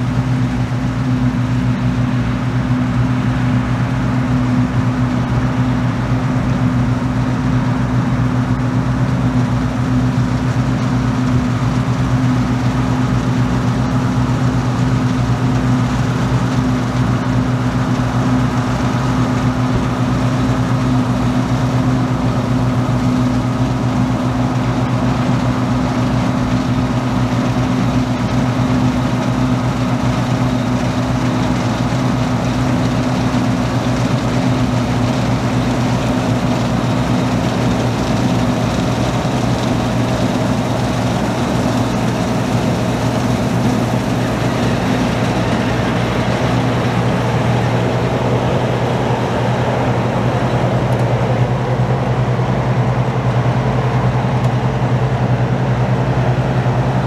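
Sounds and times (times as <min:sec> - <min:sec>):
combine harvester droning: 0:00.0 - 0:57.0.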